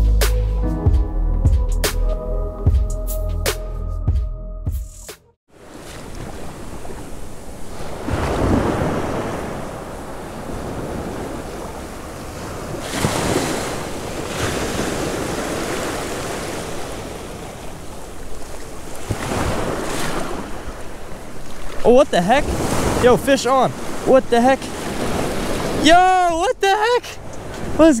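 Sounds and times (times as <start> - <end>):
ocean surf breaking on beach: 5.6 - 28.0.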